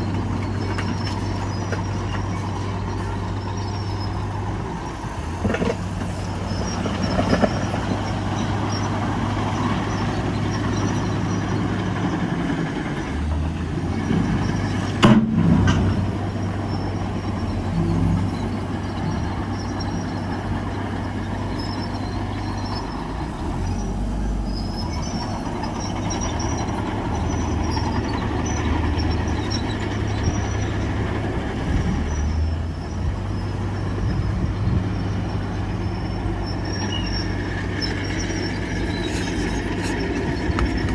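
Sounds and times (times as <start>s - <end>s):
diesel engine hum: 0.0s - 40.9s
metallic clatter and squeak: 0.0s - 40.9s.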